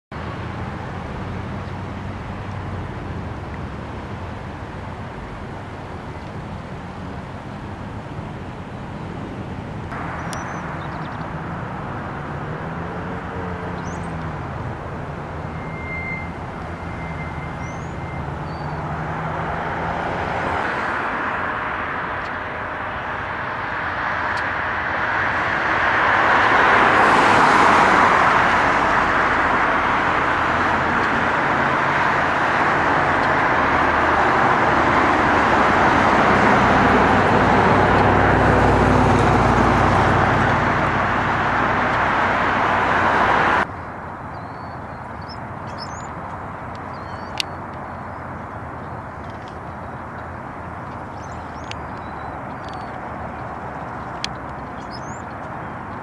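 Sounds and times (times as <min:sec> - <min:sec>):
passing vehicles rushing: 0:00.1 - 0:56.0.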